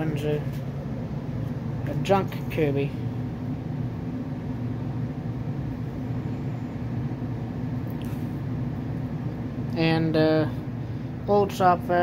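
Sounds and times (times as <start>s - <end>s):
gas furnace humming: 0.0s - 12.0s.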